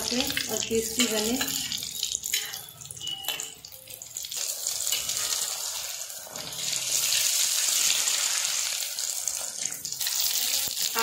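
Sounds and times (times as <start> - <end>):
deep-frying sizzle: 0.0 - 11.0.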